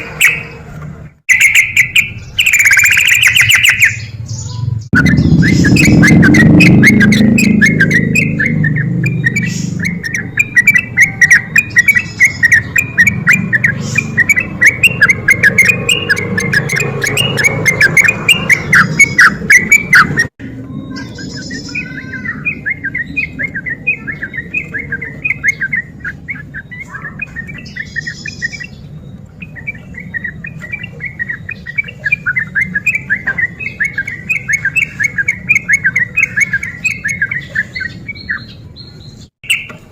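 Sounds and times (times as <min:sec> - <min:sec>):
bulbul singing rolling chatter: 0:00.0 - 0:39.9.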